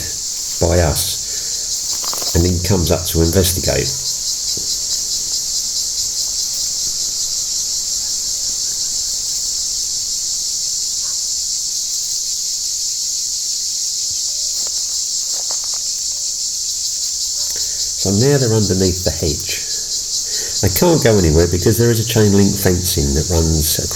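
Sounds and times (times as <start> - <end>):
cicadas buzzing: 0.0 - 23.9.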